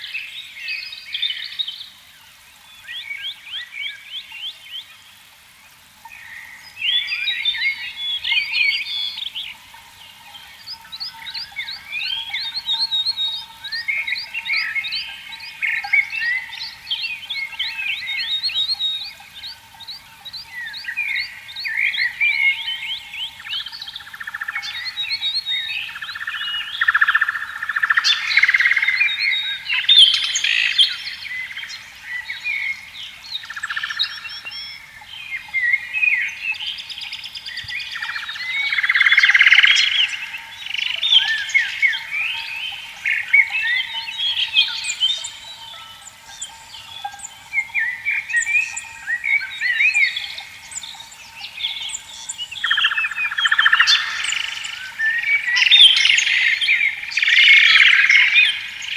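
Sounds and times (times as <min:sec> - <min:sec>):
frog chorus croaking: 0:03.4 - 0:58.9
birds chirping and calling: 0:06.2 - 0:58.9.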